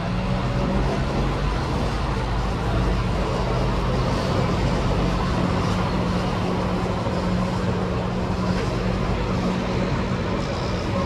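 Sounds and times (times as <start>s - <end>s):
low ship machinery hum: 0.0s - 11.0s
outdoor noise: 0.0s - 11.0s.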